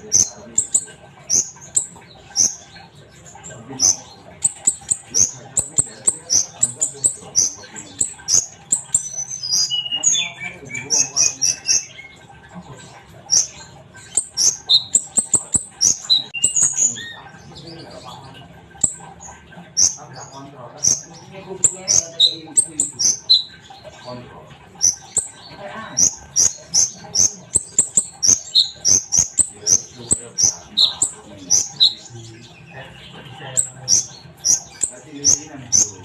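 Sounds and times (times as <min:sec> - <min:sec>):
bird twittering trills: 0:00.0 - 0:36.0
sunbird high chirps: 0:00.0 - 0:36.0.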